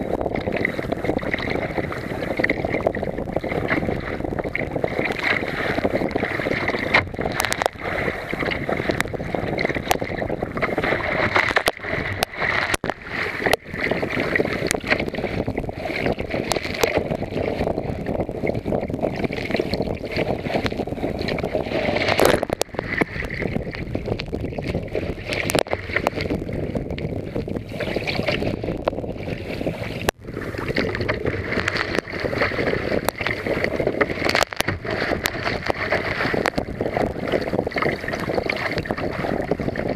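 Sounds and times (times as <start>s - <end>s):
water splashing over kayak deck: 0.0s - 39.9s
waves knocking on kayak: 0.0s - 39.9s
wind buffeting microphone: 0.0s - 39.9s.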